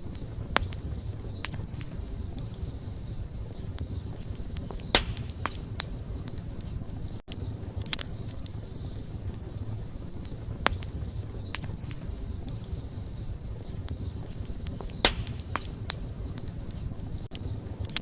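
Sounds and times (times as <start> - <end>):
sharp fire pops: 0.0 - 18.0
wood fire crackling: 0.0 - 18.0.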